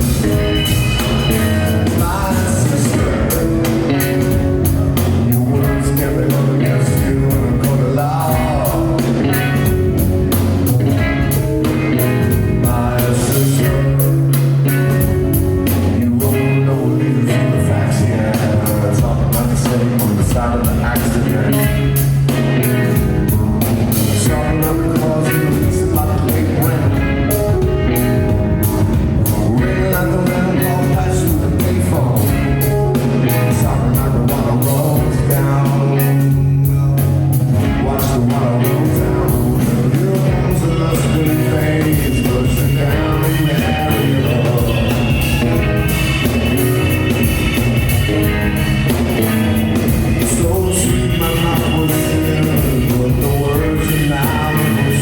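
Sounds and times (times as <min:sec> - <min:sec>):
deep bass line: 0:00.0 - 0:55.0
person singing: 0:00.0 - 0:55.0
rock band playing: 0:00.0 - 0:55.0.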